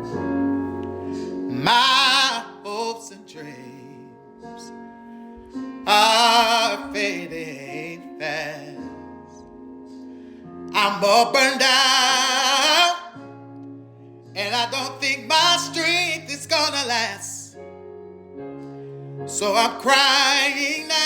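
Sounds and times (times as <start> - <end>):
held keyboard chords: 0.0 - 21.0.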